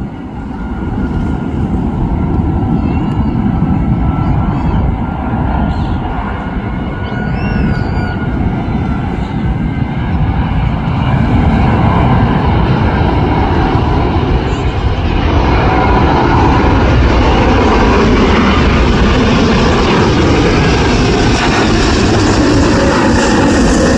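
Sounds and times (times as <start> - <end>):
jet airliner engines rumbling: 0.0 - 23.9.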